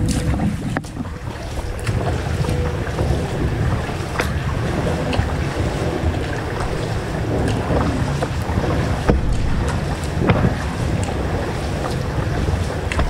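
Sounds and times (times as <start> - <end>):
paddle splashing in water: 0.0 - 13.0
steady low rumble: 0.0 - 13.0.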